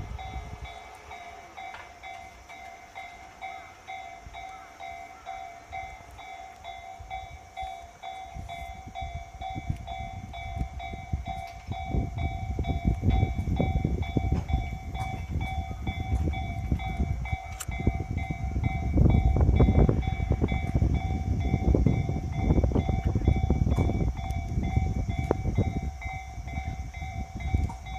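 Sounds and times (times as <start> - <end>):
level crossing warning bell: 0.0 - 27.9
train wheels rumbling and clattering: 0.0 - 27.9.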